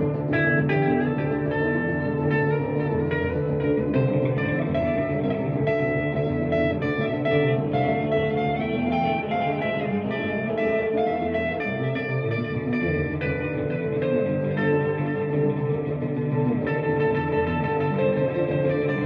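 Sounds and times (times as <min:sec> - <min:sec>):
plucked guitar notes: 0:00.0 - 0:19.0
sustained low bass tones: 0:00.0 - 0:19.0.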